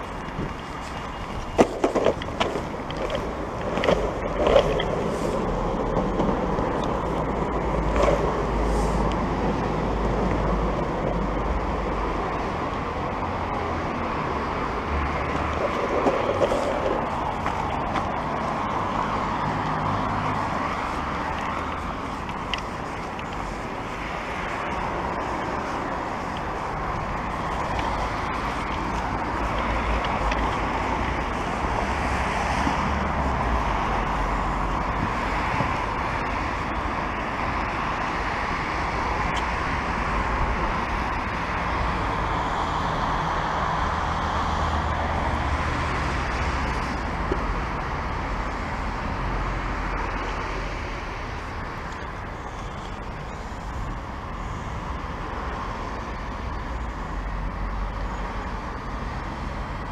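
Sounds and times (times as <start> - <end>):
longboard wheels rolling: 0.0 - 59.9.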